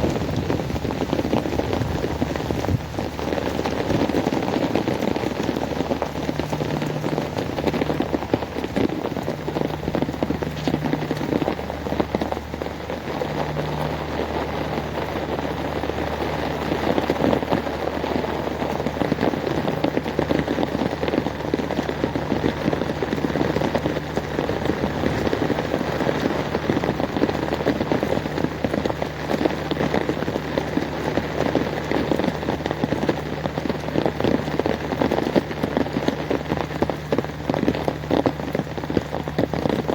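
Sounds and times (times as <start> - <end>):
heavy rain on hard surfaces: 0.0 - 39.9
low hum: 0.0 - 39.9.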